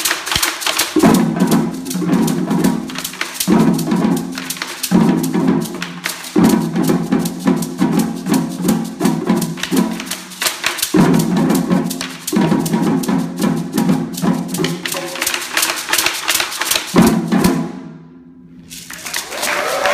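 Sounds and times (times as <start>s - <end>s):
conga struck with drumsticks: 0.0s - 17.6s
hand drums playing fast rhythm: 0.0s - 17.7s.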